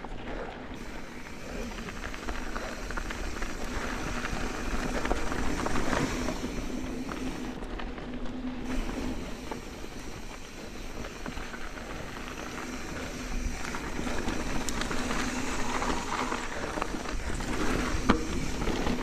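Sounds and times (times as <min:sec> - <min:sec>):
bike tyres crunching on dirt: 0:00.0 - 0:19.0
steady hum: 0:00.7 - 0:19.0.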